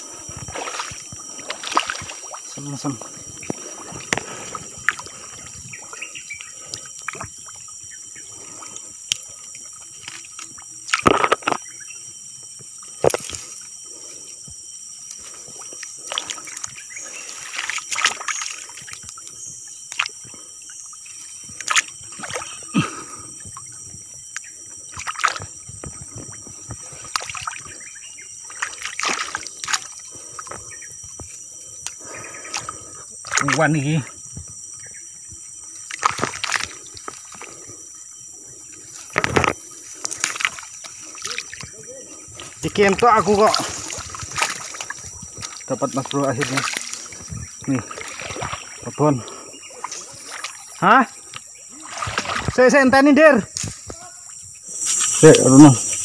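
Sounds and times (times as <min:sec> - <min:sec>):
water sloshing and splashing: 0:00.0 - 0:55.2
high-pitched insect drone: 0:00.0 - 0:56.0.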